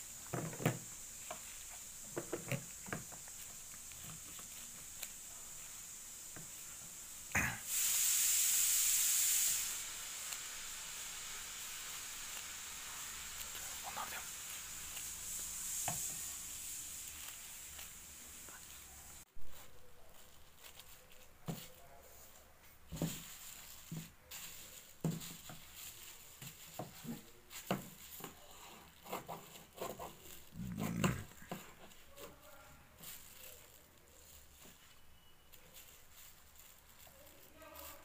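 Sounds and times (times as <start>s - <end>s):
plastic bags crinkling: 0.0s - 6.9s, 11.8s - 38.0s.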